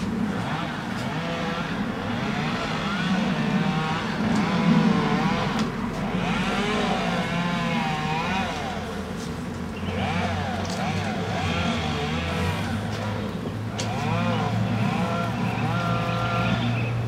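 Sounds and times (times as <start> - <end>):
chainsaw revving and cutting: 0.3 - 9.2, 9.8 - 17.0.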